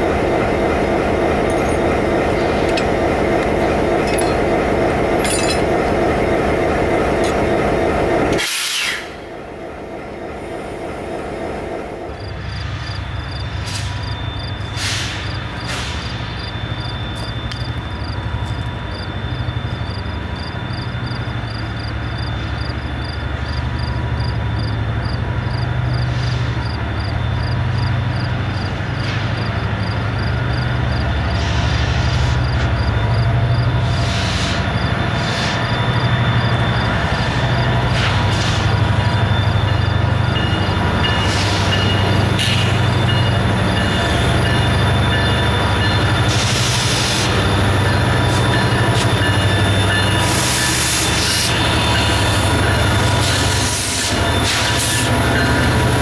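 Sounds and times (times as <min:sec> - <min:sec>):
diesel locomotive engine running: 0:00.0 - 0:56.0
distant freight train rumble: 0:00.0 - 0:56.0.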